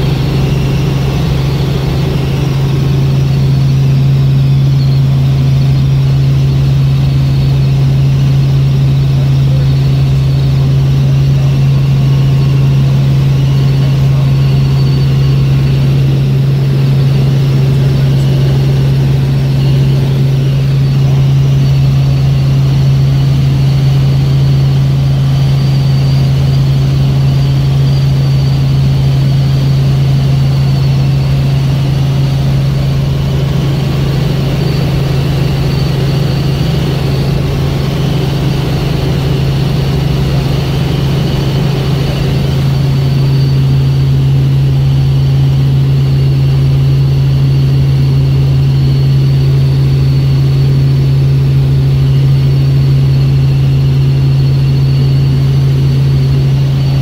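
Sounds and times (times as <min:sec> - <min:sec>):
helicopter cabin drone: 0:00.0 - 0:57.0
high whine: 0:00.0 - 0:57.0.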